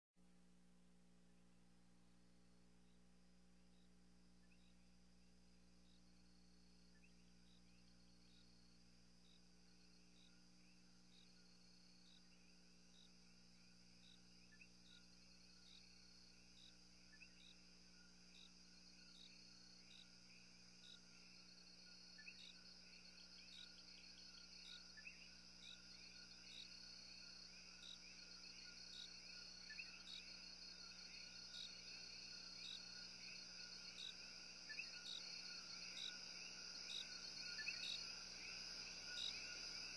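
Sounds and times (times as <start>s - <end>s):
insects trilling: 3.6s - 39.9s
tree frogs chirping: 3.7s - 4.9s, 5.8s - 39.9s.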